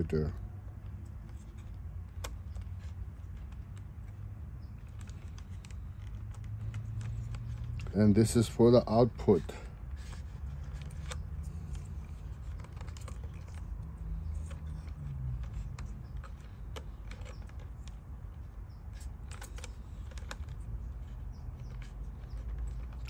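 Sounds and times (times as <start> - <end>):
small clicks and taps: 0.4 - 8.0, 9.7 - 23.0.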